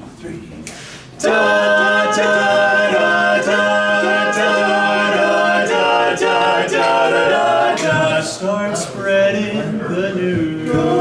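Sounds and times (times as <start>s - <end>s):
men singing a cappella harmony: 1.2s - 11.0s.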